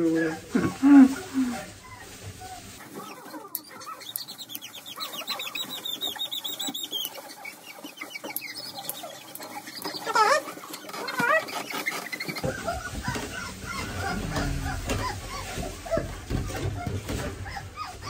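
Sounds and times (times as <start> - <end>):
puppy squeaking and crying: 1.1 - 18.0
puppy yelping: 1.1 - 18.0.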